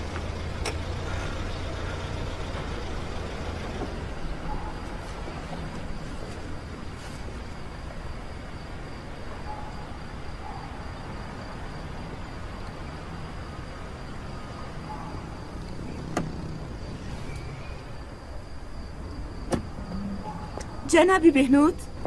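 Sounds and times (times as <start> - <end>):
car engine and road rumble: 0.0 - 20.9.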